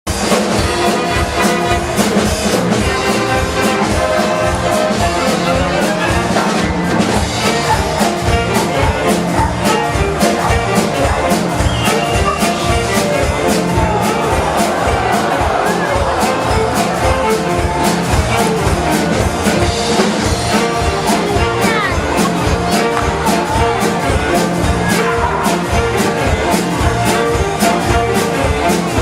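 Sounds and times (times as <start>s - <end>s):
steady drum beat: 0.1s - 29.0s
upbeat music with brass: 0.1s - 29.0s.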